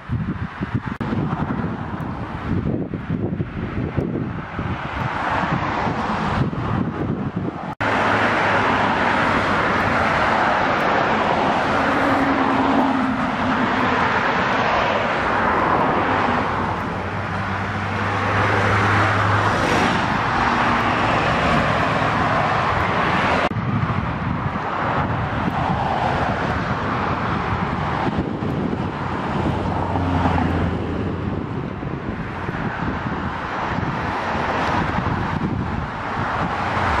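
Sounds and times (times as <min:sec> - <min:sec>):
low engine hums: 0:00.0 - 0:37.0
passing cars: 0:00.0 - 0:37.0
wind on microphone: 0:00.0 - 0:37.0.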